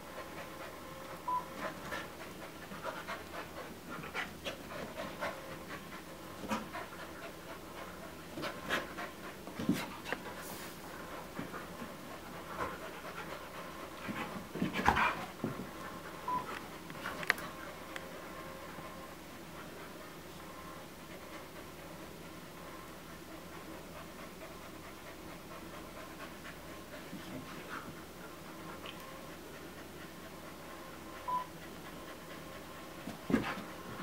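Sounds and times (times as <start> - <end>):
dogs panting: 0.0 - 34.0.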